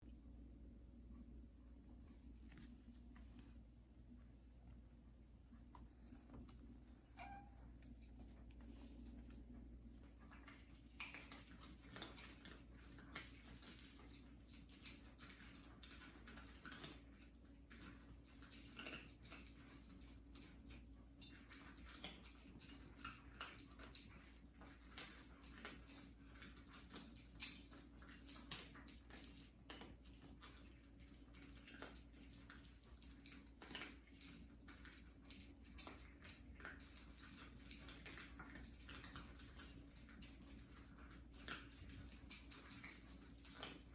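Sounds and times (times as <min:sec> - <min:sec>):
steady low hum: 0:00.0 - 0:43.9
cats chewing food clicks: 0:00.1 - 0:43.9.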